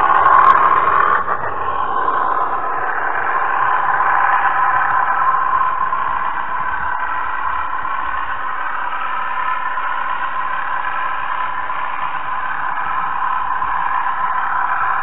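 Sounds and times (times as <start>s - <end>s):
model train whirring and rattling: 0.0s - 15.0s.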